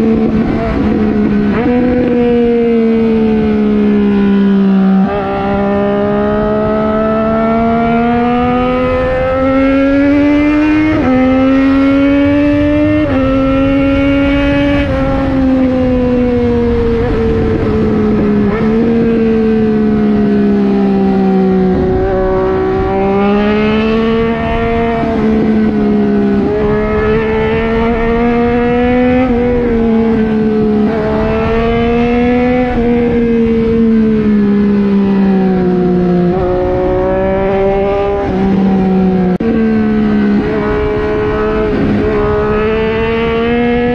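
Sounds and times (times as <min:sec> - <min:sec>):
motorcycle engine revving: 0:00.0 - 0:43.9
wind rush: 0:00.0 - 0:43.9.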